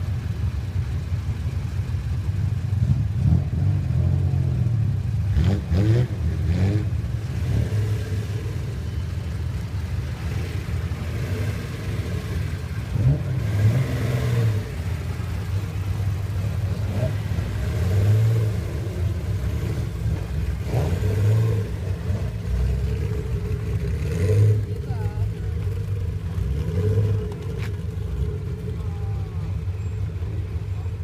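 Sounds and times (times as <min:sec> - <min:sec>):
car engine idling with deep rumble: 0:00.0 - 0:31.0
engine revving in throttle blips: 0:02.8 - 0:09.0, 0:10.1 - 0:31.0.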